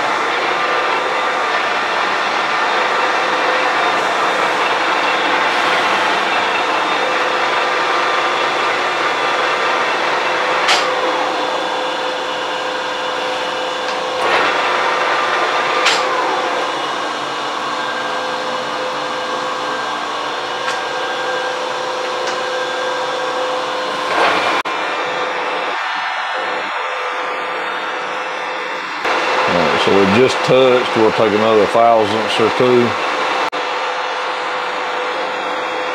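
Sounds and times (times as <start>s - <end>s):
metalworking machine whirring: 0.0s - 35.9s.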